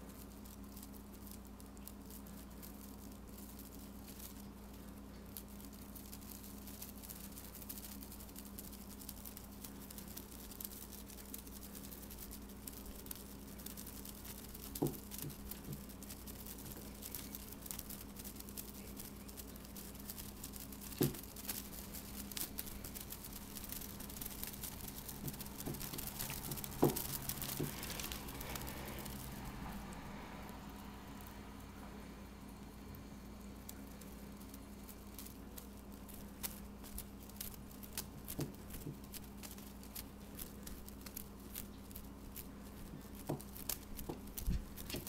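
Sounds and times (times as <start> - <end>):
faint rustling: 0.0 - 32.2, 33.5 - 45.0
steady low hum: 0.0 - 45.0.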